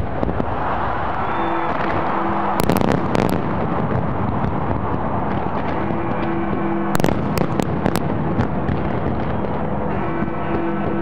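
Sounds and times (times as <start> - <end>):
fireworks bangs: 0.0 - 11.0
fireworks sharp cracks: 0.0 - 11.0.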